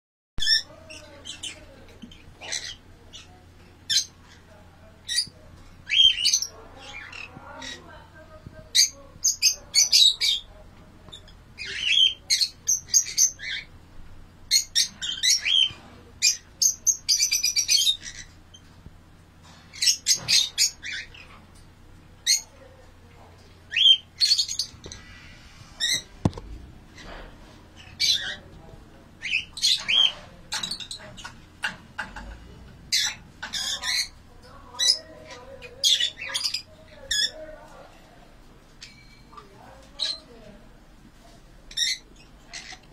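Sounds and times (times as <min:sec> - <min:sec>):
lovebirds squawking and chirping: 0:00.4 - 0:13.8, 0:14.5 - 0:18.8, 0:19.4 - 0:21.6, 0:22.2 - 0:22.7, 0:23.7 - 0:28.6, 0:29.2 - 0:37.9, 0:38.8 - 0:40.4, 0:41.7 - 0:42.9.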